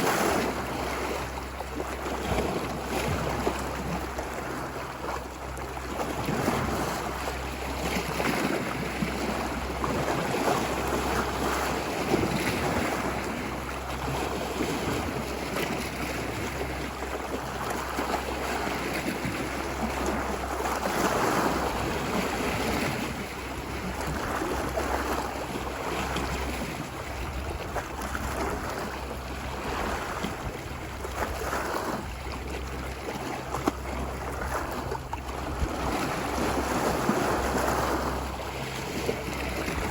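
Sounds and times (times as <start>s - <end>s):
ocean waves washing ashore: 0.0s - 39.9s
low rumble: 0.4s - 39.9s.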